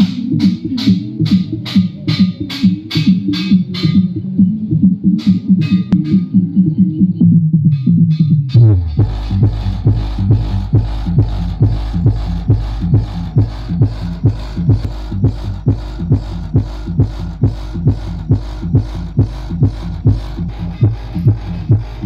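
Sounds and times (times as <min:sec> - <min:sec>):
bass-heavy dance music: 0:00.0 - 0:22.0.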